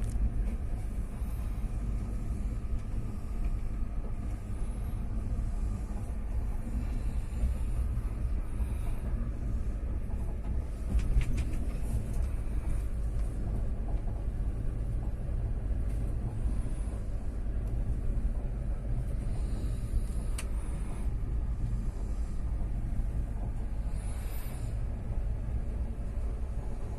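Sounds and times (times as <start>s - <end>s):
train wheels rumbling on track: 0.0s - 26.9s.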